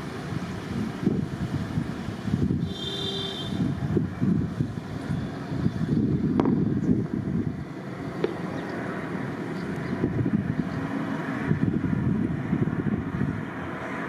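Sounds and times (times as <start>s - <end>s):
jet engines rumbling: 0.0s - 14.0s
wind buffeting microphone: 0.0s - 14.0s.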